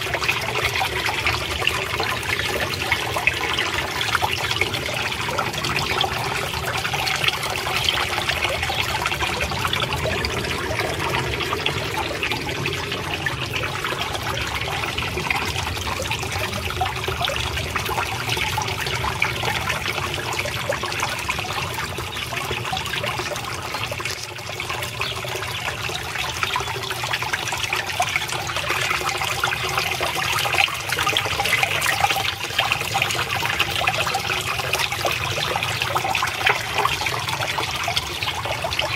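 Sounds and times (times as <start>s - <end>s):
water trickling into a pond: 0.0s - 38.9s.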